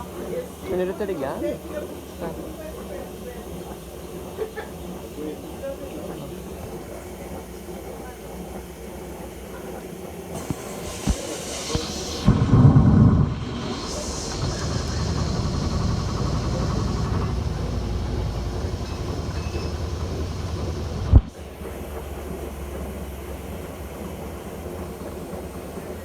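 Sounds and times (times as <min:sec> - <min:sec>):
washing machine rumbling: 0:00.0 - 0:26.0.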